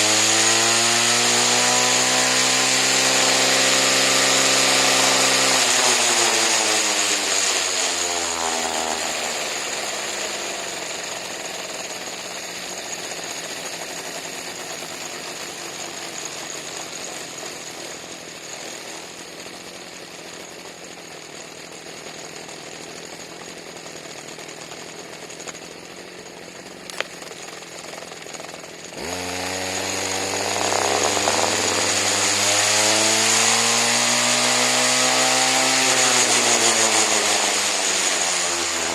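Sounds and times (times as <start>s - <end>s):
weed eater engine revving: 0.0s - 38.9s.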